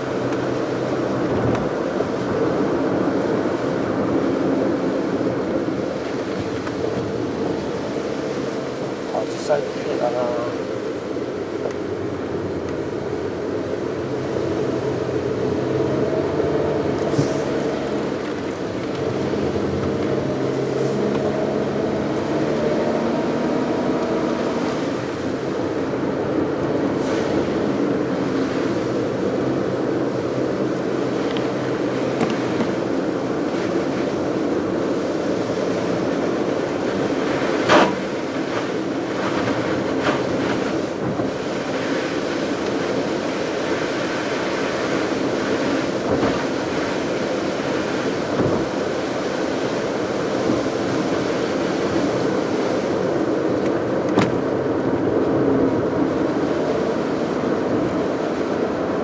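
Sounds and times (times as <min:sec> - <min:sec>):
car engine humming: 0:00.0 - 0:59.0
tyre and road noise: 0:00.0 - 0:59.0.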